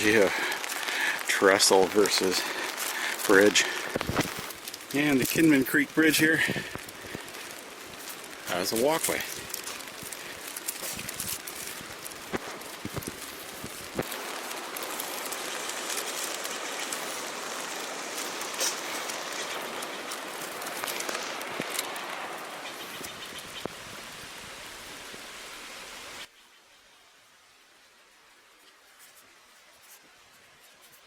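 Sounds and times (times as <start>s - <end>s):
raindrop ticks: 0.0s - 25.5s
heavy rain hiss: 0.0s - 31.0s.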